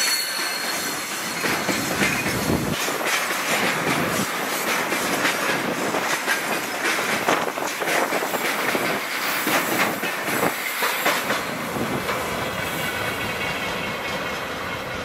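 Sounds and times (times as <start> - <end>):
wheels clattering over rail joints: 0.4 - 15.0.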